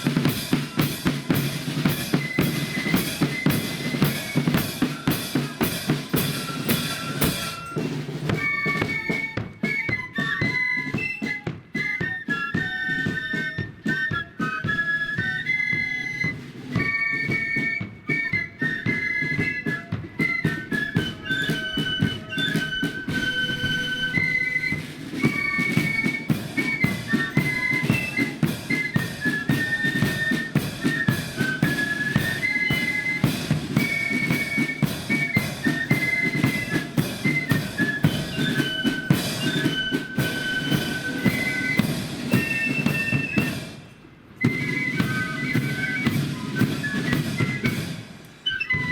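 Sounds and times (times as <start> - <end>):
flutes playing high melody: 0.0 - 48.9
snare and bass drumming: 0.0 - 48.9.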